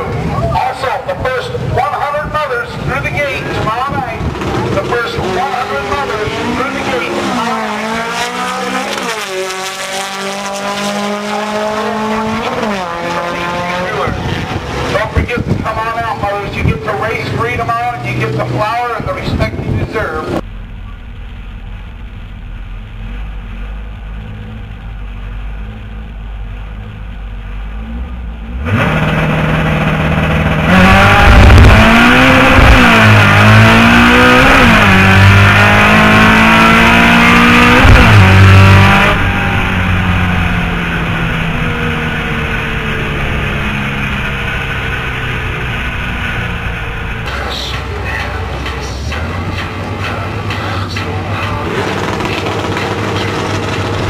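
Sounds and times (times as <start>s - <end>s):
drag car engine accelerating: 0.0s - 54.0s.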